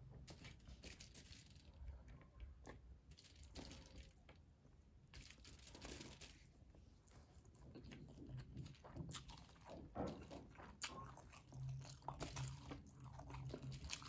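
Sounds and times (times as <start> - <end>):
quiet chewing: 0.1 - 14.0.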